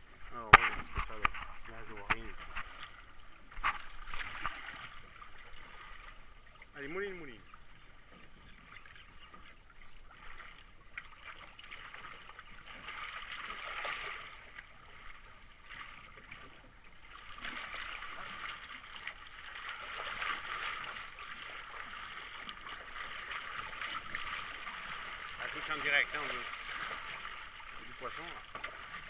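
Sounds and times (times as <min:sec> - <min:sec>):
sea water washing around boat: 0:00.0 - 0:29.0.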